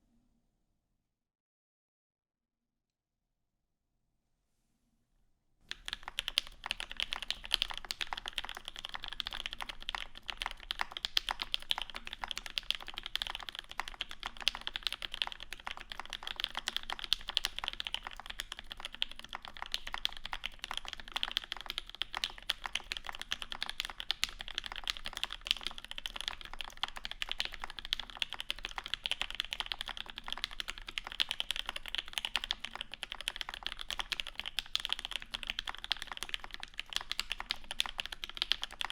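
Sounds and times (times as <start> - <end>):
mechanical keyboard typing: 5.7 - 38.9.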